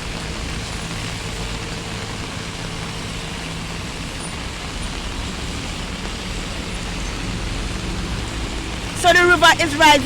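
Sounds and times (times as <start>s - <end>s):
river rushing in flood: 0.0s - 10.0s
vehicle engine low hum: 0.0s - 10.0s.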